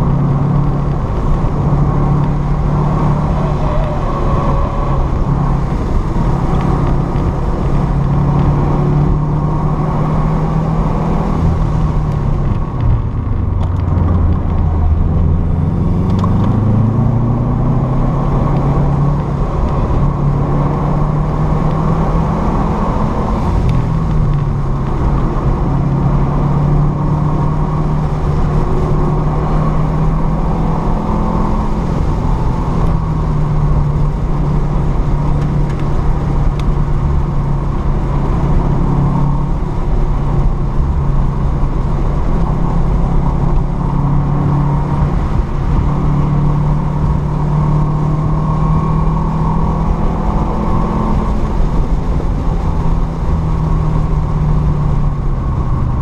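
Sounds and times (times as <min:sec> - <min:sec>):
car engine pulling: 0:00.0 - 0:56.0
road and wind noise: 0:00.0 - 0:56.0.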